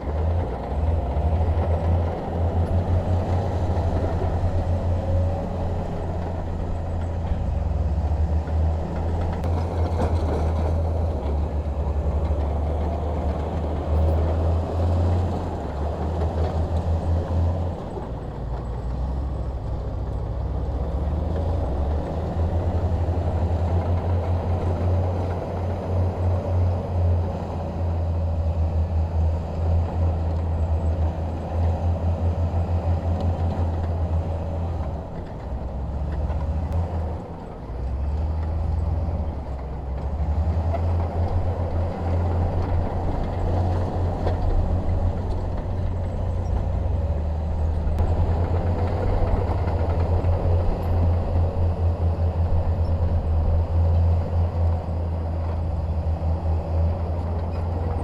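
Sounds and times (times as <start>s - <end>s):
bulldozer diesel engine throbbing: 0.0s - 58.0s.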